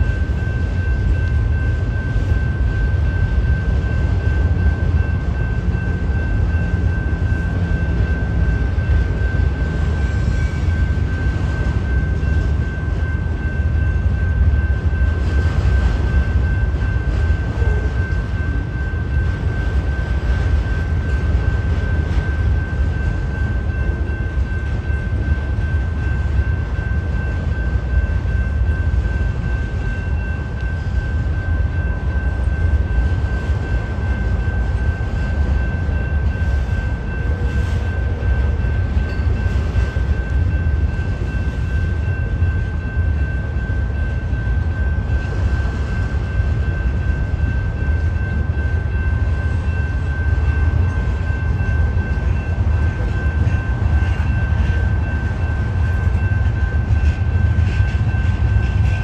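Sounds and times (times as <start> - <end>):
freight train rumbling past: 0.0 - 59.0
steady high-pitched tone: 0.0 - 59.0.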